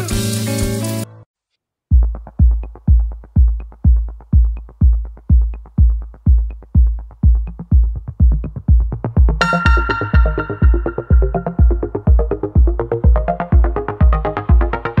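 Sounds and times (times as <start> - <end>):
deep kick drum: 1.9 - 15.0
electronic dance music: 2.1 - 15.0.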